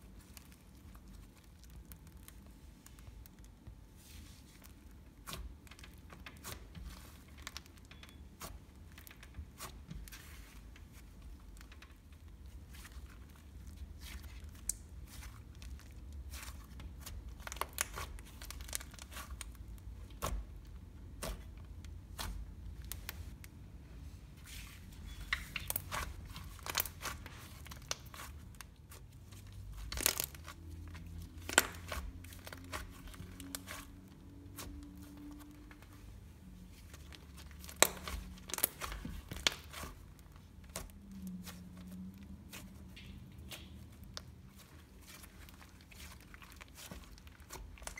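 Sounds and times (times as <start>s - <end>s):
slime squishing with sticky clicks: 0.0s - 23.6s, 25.0s - 47.9s.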